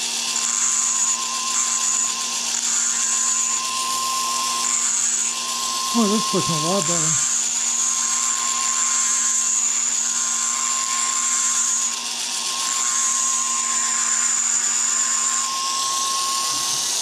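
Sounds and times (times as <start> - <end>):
pencil grinder grinding steel: 0.0 - 17.0.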